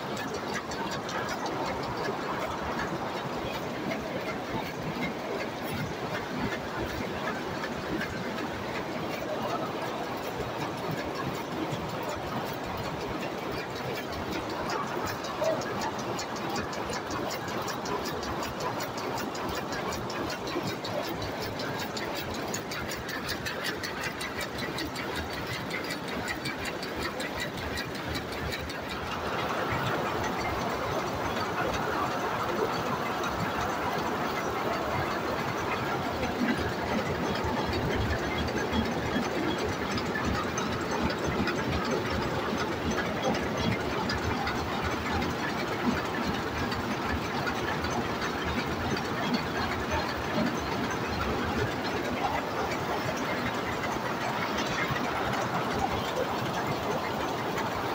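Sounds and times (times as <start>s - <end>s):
loom clattering: 0.0s - 57.9s
machine rumble: 0.0s - 57.9s.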